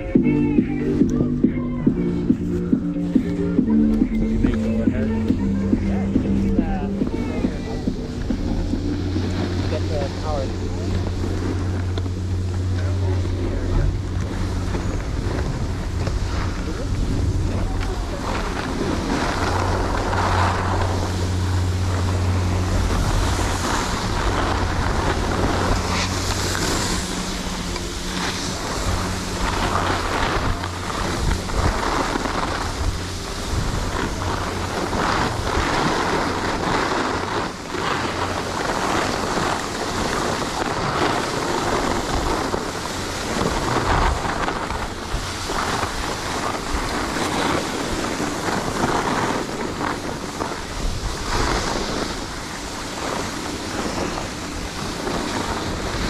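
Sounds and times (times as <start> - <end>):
low steady hum: 0.0 - 56.0
wind rushing over microphone: 0.0 - 56.0
skis scraping over snow: 2.0 - 56.0.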